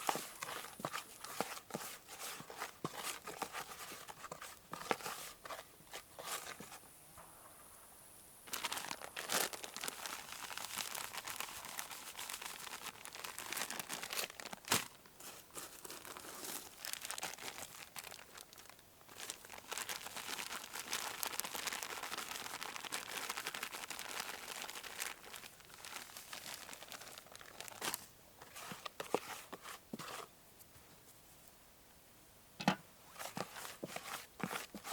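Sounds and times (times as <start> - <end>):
crinkling and rustling: 0.0 - 6.8, 8.4 - 31.2, 32.6 - 34.9.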